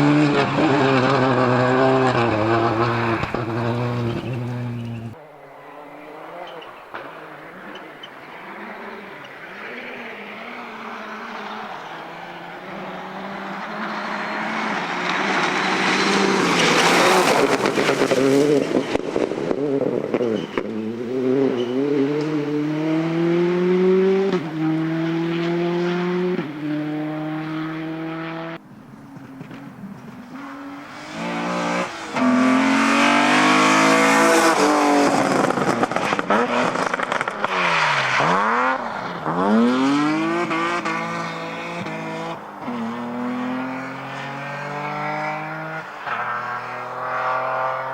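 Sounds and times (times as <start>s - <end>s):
rally car passing and accelerating: 0.0s - 47.9s
rally car revving hard: 0.0s - 47.9s.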